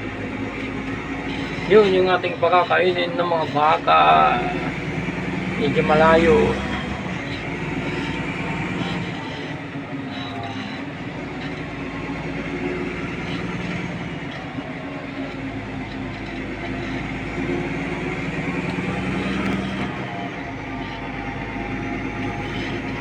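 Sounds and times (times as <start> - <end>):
farm vehicle engine running: 0.0 - 23.0
vehicle rattling and clattering: 0.0 - 23.0.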